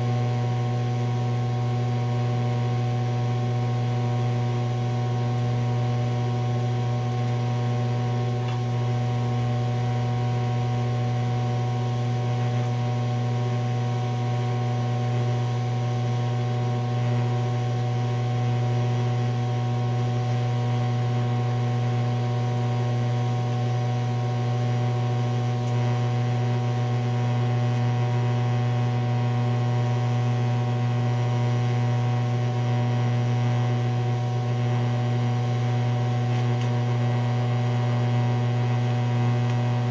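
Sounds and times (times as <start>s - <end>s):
welding machine humming: 0.0s - 39.9s.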